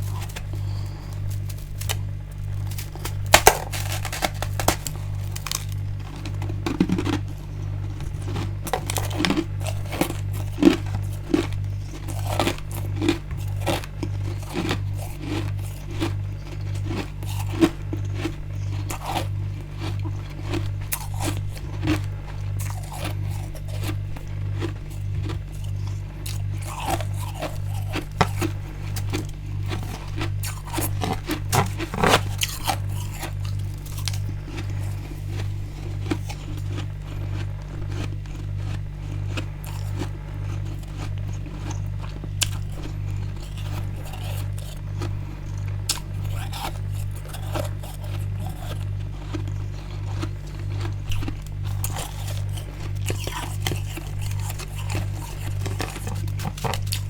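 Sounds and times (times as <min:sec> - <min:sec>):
crunching bites of ice: 0:00.0 - 0:57.0
low pulsing hum: 0:00.0 - 0:57.0.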